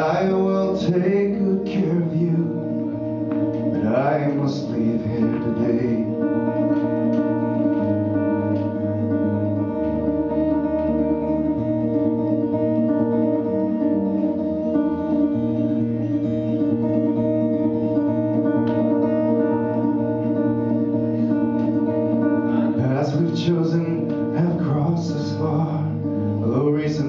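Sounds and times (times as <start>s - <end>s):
bass line: 0.0s - 27.0s
electric guitar: 0.0s - 27.0s.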